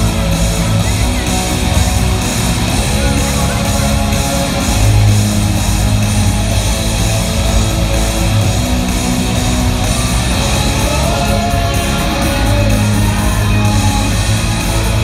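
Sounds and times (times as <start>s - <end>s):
bass: 0.0s - 15.0s
distorted electric guitars: 0.0s - 15.0s
drums: 0.0s - 15.0s.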